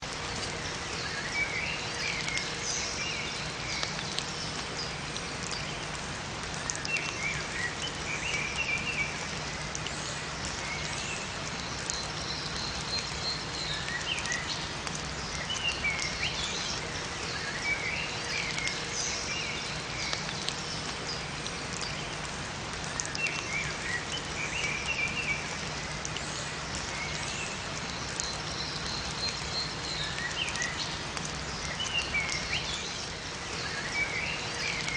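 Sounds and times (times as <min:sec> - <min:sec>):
rain falling in a forest: 0:00.0 - 0:34.9
songbirds chirping: 0:00.0 - 0:34.9.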